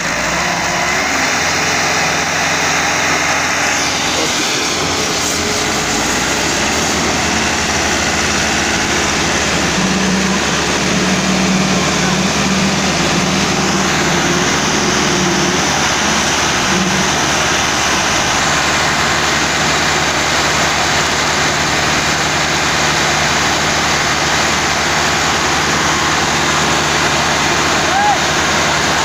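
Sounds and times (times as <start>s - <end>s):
tractor diesel engines under load: 0.0s - 29.0s.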